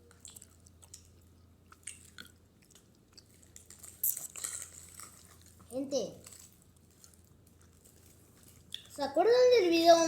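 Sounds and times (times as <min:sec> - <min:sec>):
person chewing gummy candies: 0:00.0 - 0:09.0.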